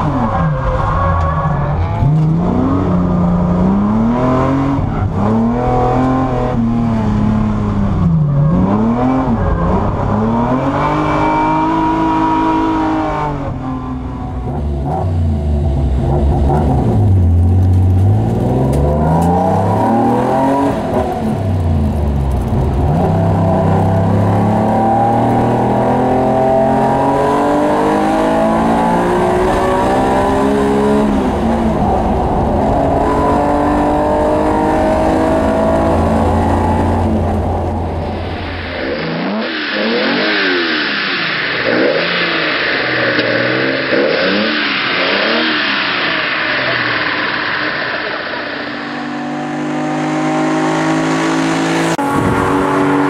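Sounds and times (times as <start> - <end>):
car engine accelerating through gears: 0.0 - 53.0.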